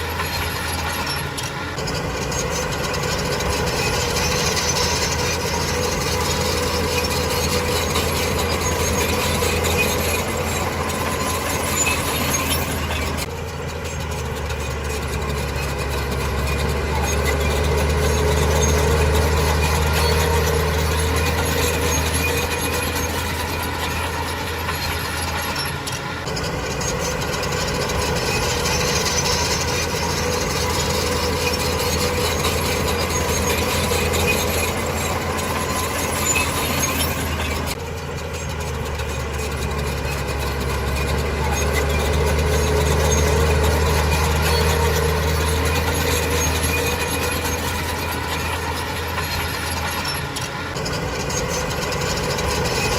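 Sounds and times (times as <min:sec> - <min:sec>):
heavy machinery diesel engine: 0:00.0 - 0:52.9.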